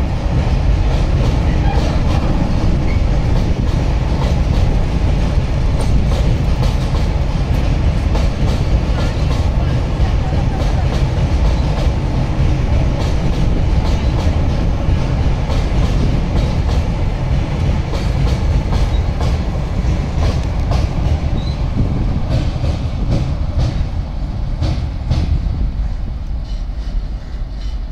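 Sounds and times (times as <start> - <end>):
freight train rumbling over bridge: 0.0 - 27.9.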